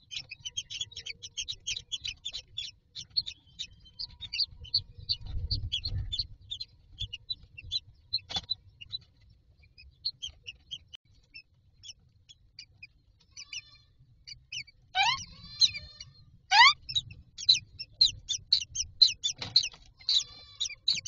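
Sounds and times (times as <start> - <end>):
chicks cheeping: 0.0 - 21.0.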